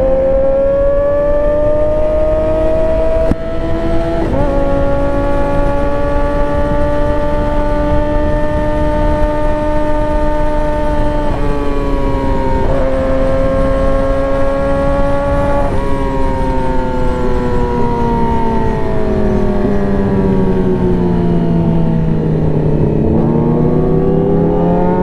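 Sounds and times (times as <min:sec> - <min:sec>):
motorcycle engine whining: 0:00.0 - 0:25.0
wind rush: 0:00.0 - 0:25.0.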